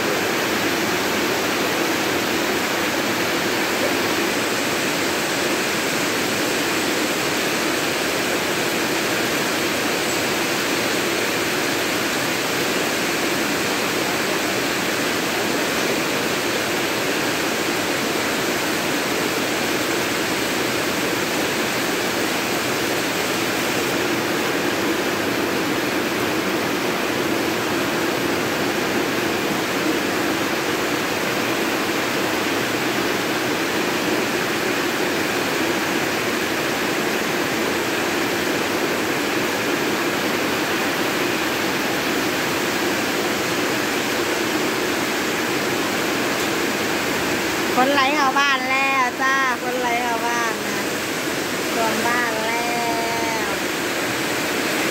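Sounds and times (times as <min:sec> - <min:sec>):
heavy rain on metal roof: 0:00.0 - 0:54.9.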